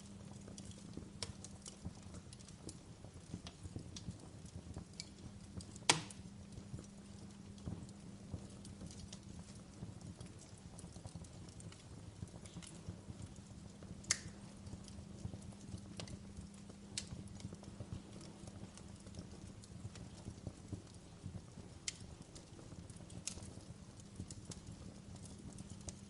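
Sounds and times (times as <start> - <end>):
low rumble of burning: 0.0 - 26.0
wood fire crackling and popping: 0.0 - 26.0.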